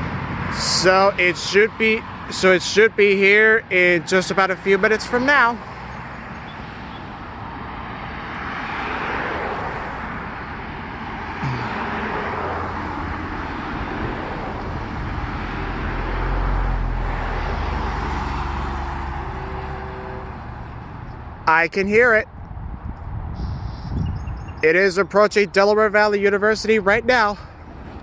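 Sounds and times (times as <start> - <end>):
vehicle passing with engine rumble: 0.0 - 25.6.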